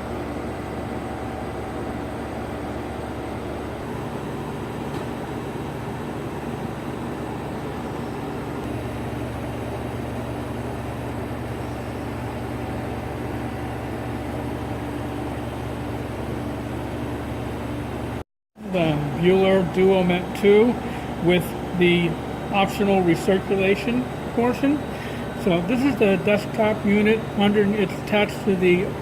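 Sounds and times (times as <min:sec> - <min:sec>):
mechanical hum with low drone: 0:00.0 - 0:29.0.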